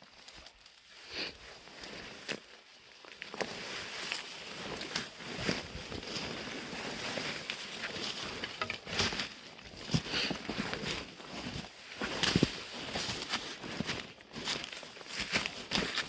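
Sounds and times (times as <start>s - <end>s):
footsteps through undergrowth: 0.0s - 16.0s.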